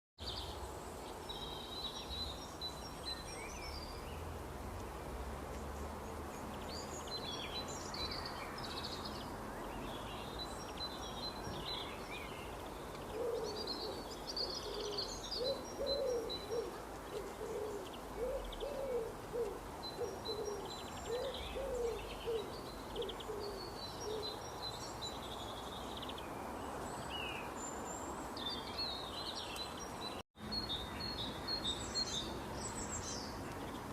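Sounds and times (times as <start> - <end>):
steady background hiss: 0.2 - 33.9
small birds chirping: 5.5 - 33.9.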